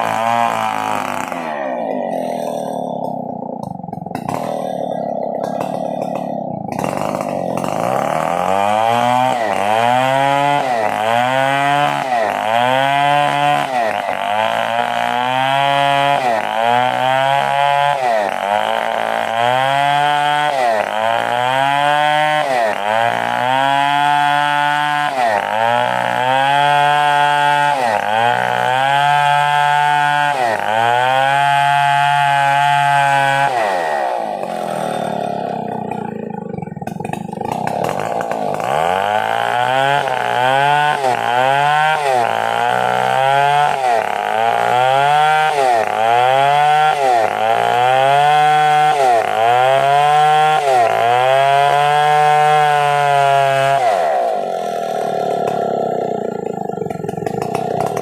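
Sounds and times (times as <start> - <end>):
chainsaw engine running hard: 0.0 - 58.0.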